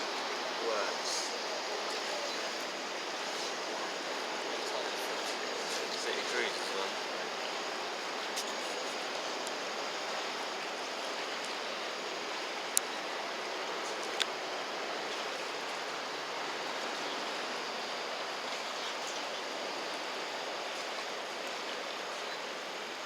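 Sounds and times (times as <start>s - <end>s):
rushing river: 0.0s - 23.0s.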